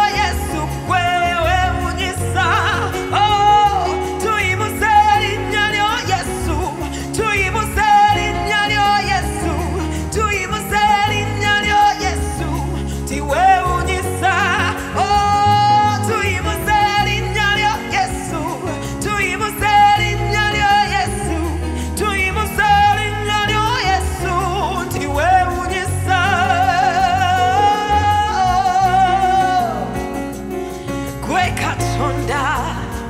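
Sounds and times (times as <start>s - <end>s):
instrumental backing with bass: 0.0s - 33.0s
woman singing with vibrato: 0.0s - 33.0s.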